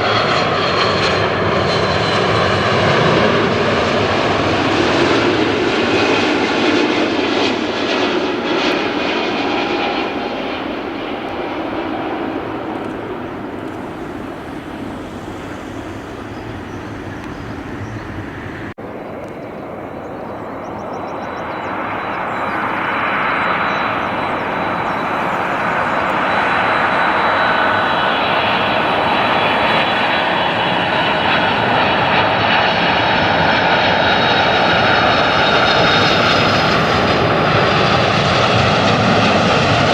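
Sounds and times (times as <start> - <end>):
aircraft engines high whine: 0.0 - 39.9
airliner engine noise: 0.0 - 39.9.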